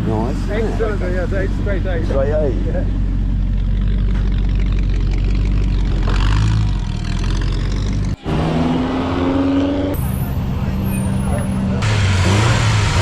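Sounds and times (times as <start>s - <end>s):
car engine idling: 0.1s - 8.2s, 10.0s - 13.0s
engine whine: 1.2s - 13.0s.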